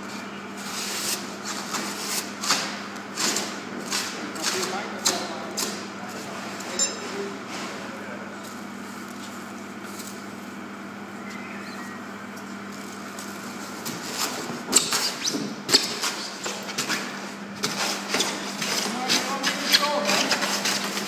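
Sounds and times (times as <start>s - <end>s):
low hum of workshop: 0.0s - 21.0s.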